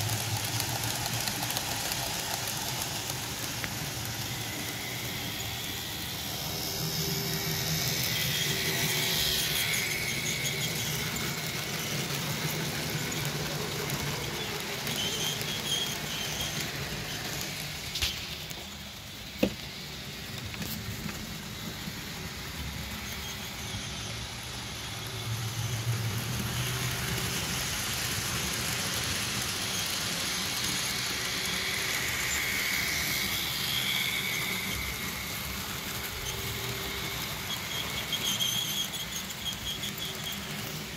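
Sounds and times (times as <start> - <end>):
model train motors whirring: 0.0 - 40.9
high squeal: 3.5 - 18.7, 20.5 - 40.9.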